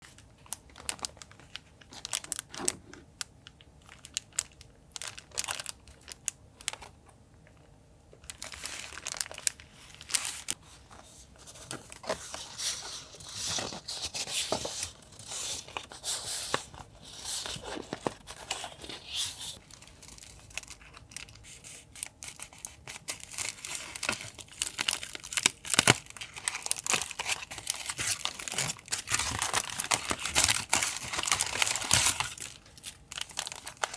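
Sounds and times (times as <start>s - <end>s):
paper crinkling and rustling: 0.0s - 3.1s, 8.3s - 33.9s.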